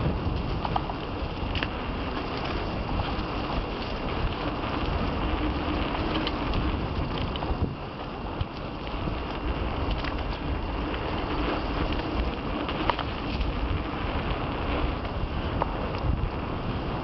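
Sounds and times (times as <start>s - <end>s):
mountain bike rumble and rattle: 0.0s - 17.0s
wind buffeting microphone: 0.0s - 17.0s.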